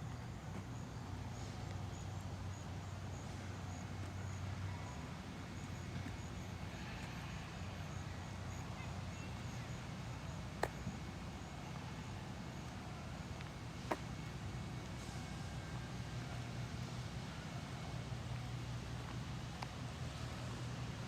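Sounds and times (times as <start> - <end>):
engine idling hum: 0.0 - 21.0
outdoor background noise: 0.0 - 21.0.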